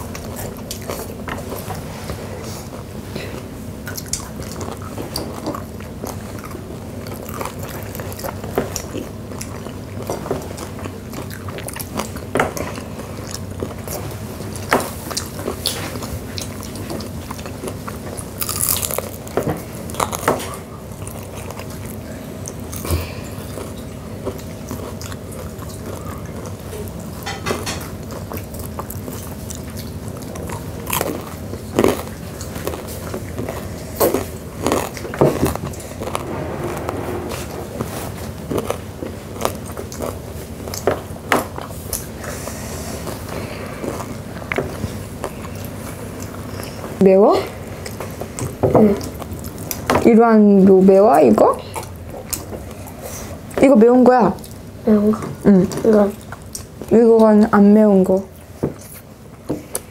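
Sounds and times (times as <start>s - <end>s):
people chewing crunchy food: 0.0s - 37.3s, 38.0s - 59.9s.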